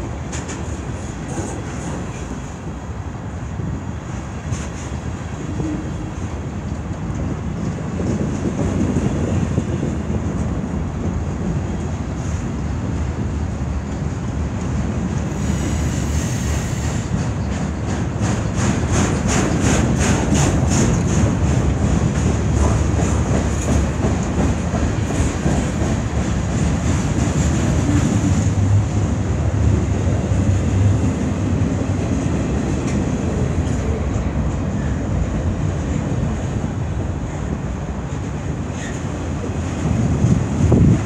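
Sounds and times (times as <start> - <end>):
clickety-clack over rail joints: 0.0 - 41.0
train wheels rumbling on rails: 0.0 - 41.0.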